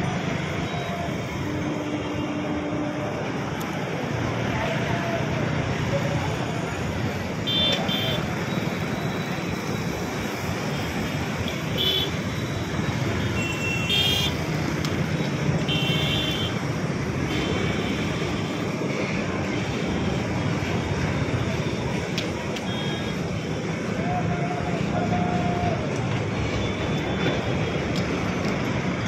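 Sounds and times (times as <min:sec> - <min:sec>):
freight train wheels on rail: 0:00.0 - 0:29.0.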